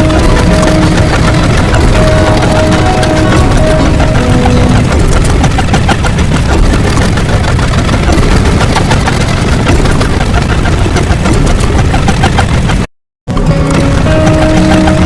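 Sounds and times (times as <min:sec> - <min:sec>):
loud distorted rumbling with crackling: 0:00.0 - 0:15.0.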